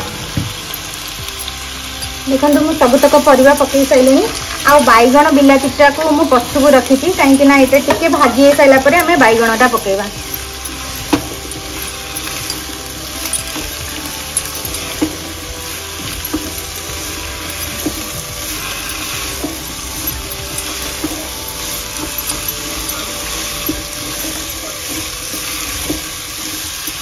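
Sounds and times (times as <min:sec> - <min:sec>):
vegetables sizzling in a pot: 0:00.0 - 0:27.0.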